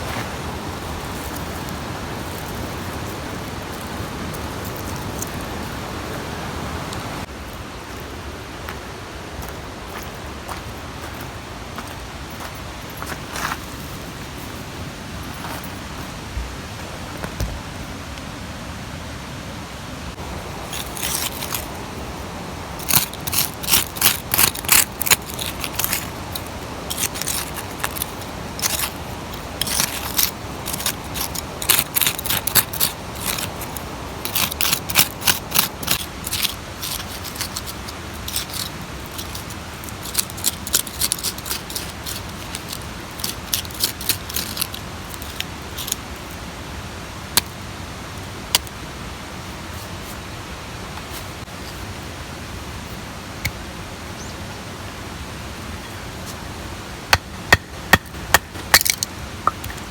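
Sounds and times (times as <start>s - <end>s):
stream rushing: 0.0s - 59.9s.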